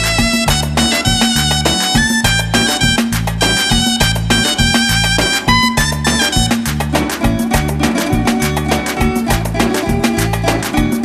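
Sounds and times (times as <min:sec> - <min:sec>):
upbeat latin dance music with brass: 0:00.0 - 0:11.0.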